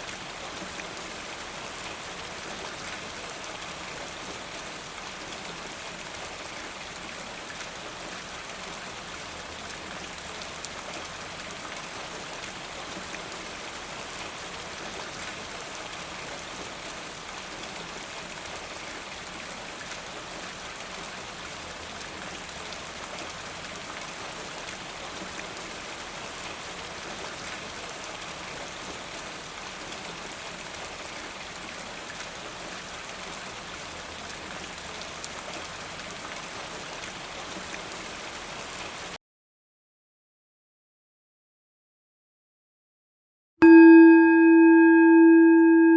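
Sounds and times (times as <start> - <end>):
steady rain falling: 0.0 - 39.2.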